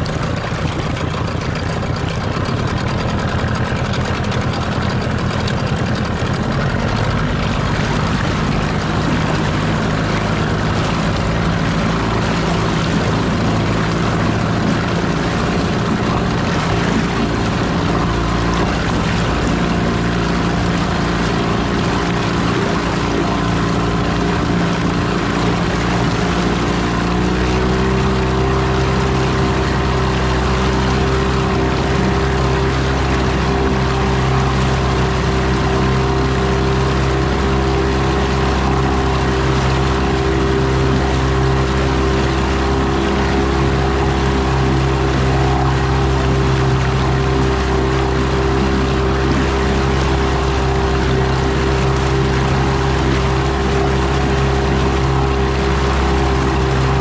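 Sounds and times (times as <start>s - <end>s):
outboard motor running: 0.0s - 57.0s
wake splashing: 0.0s - 57.0s.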